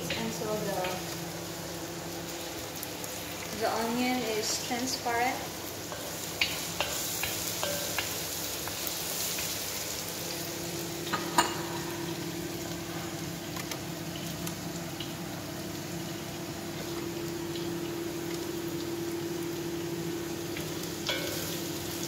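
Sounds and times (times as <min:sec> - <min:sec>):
shallots sizzling in hot oil: 0:00.0 - 0:22.0.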